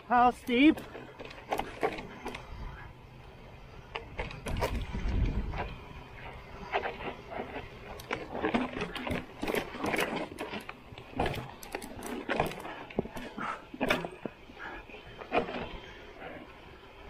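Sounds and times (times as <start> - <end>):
bike chain and frame clattering: 0.0 - 17.0.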